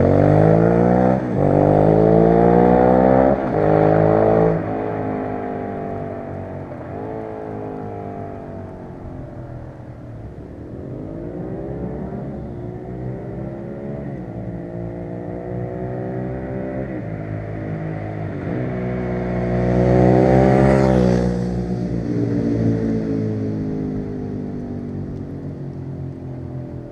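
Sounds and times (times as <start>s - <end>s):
motorcycle accelerating through gears: 0.0s - 26.9s.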